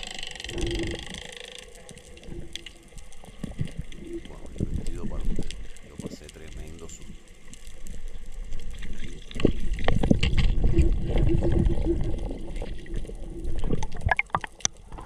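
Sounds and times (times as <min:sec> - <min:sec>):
water gurgling underwater: 0:00.0 - 0:15.0.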